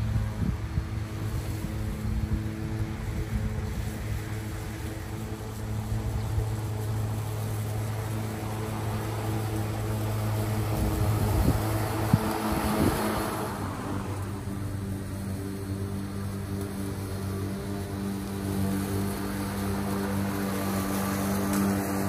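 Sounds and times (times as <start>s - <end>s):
lawnmower motor hum and blade whir: 0.0s - 22.0s.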